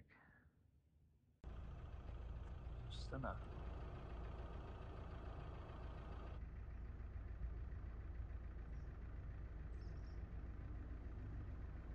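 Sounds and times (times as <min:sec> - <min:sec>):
low outdoor rumble: 0:01.4 - 0:11.9.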